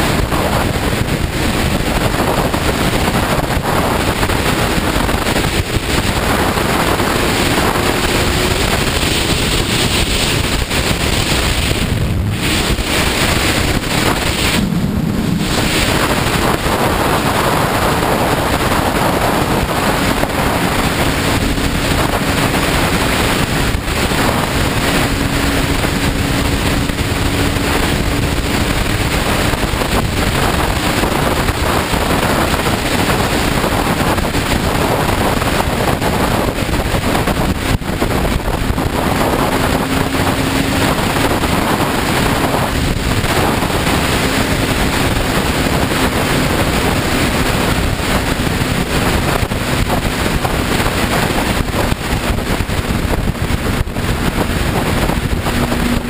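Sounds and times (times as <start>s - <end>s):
motorcycle engine: 0.0s - 56.0s
wind rush on microphone: 0.0s - 56.0s.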